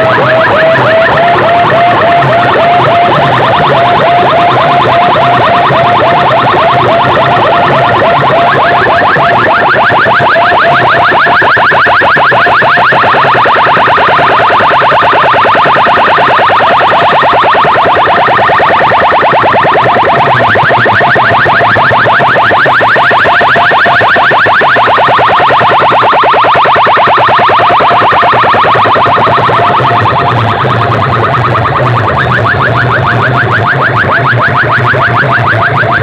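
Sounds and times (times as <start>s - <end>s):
electronic siren warble: 0.0s - 36.0s.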